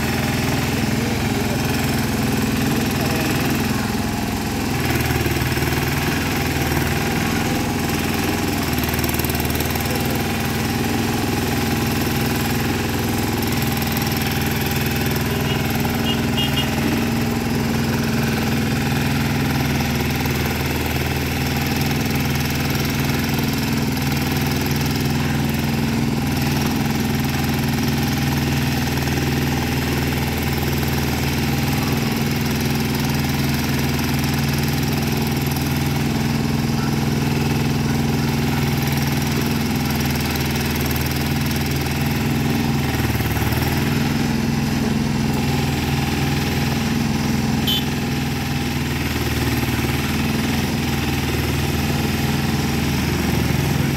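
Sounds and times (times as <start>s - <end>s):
backhoe engine running: 0.0s - 53.9s.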